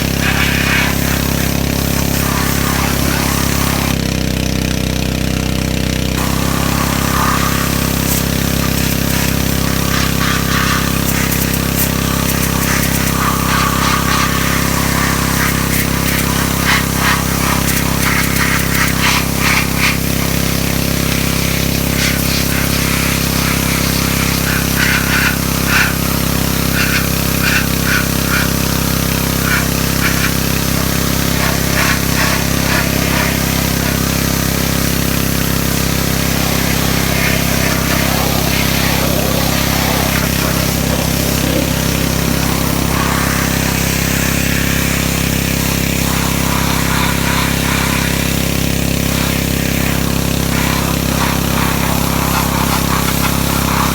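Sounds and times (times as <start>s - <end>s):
high-pressure water spray hissing: 0.0s - 4.7s, 5.3s - 53.9s
small engine running: 0.0s - 53.9s.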